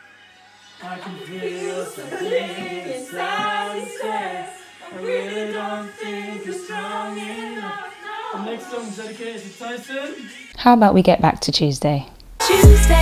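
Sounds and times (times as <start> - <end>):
singing in long held notes: 0.0 - 10.5, 12.4 - 13.0.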